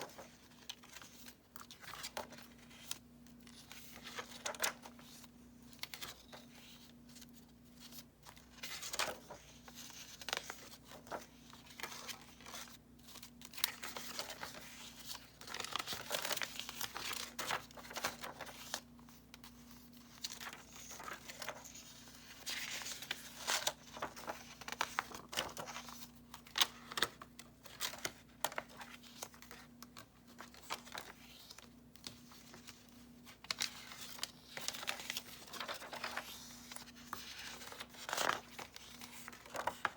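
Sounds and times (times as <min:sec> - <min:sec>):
paper pages rustling and turning: 0:00.0 - 0:39.9.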